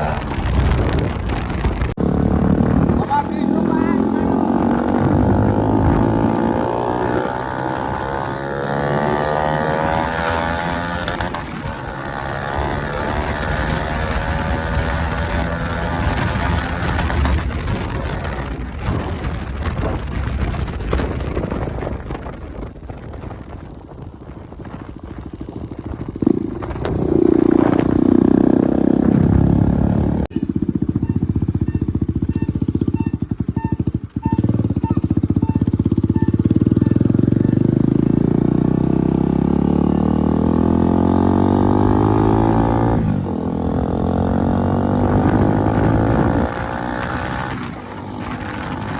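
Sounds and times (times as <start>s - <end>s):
motorcycle engine revving: 0.0s - 48.9s
wind noise: 0.0s - 48.9s.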